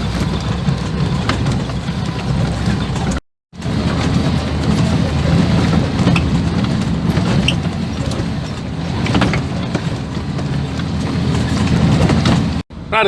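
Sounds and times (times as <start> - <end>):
vehicle knocks and rattles: 0.0 - 12.6
vehicle engine under load: 0.0 - 13.0.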